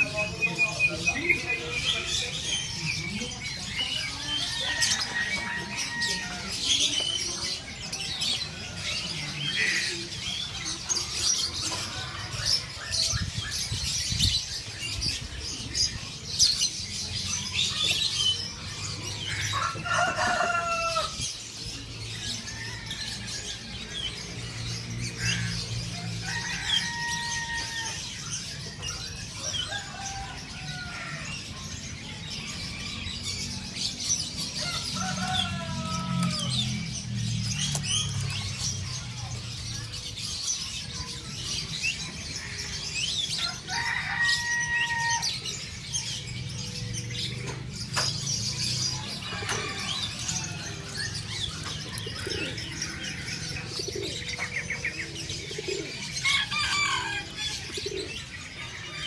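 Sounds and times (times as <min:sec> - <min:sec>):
caged birds chirping: 0:00.0 - 0:59.0.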